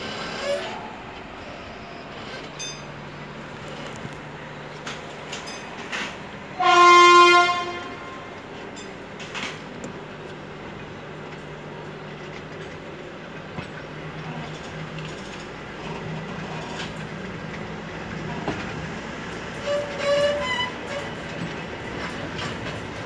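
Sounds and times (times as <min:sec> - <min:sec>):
train wheels rumbling on track: 0:00.0 - 0:23.0
clacks over rail joints: 0:02.1 - 0:23.0.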